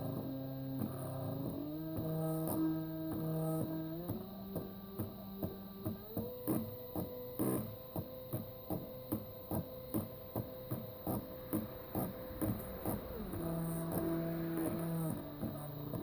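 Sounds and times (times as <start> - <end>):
stepper motor whining: 0.0 - 16.0.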